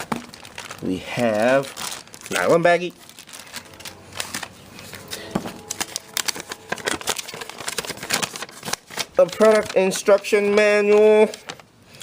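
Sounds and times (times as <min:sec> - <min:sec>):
nylon bag crinkling: 0:00.0 - 0:11.7.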